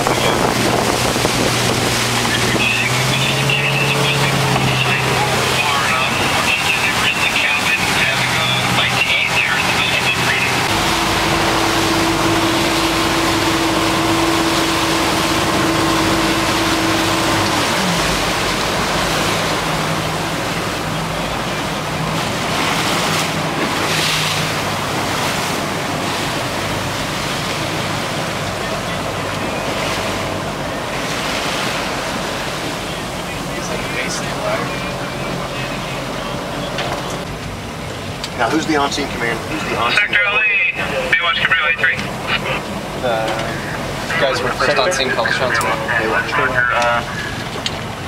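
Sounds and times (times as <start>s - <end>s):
motorboat engine running: 0.0s - 48.0s
wind and water rushing: 0.0s - 48.0s.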